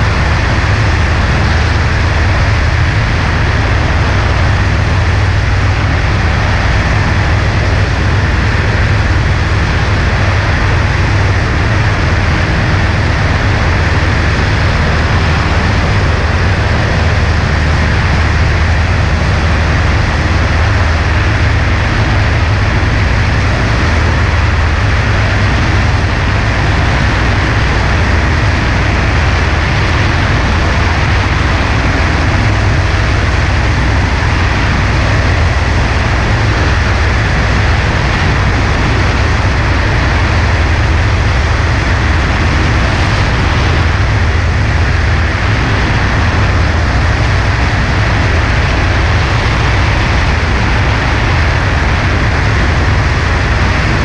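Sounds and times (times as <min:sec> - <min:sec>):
light airplane engine droning: 0:00.0 - 0:54.0
wind rushing: 0:00.0 - 0:54.0.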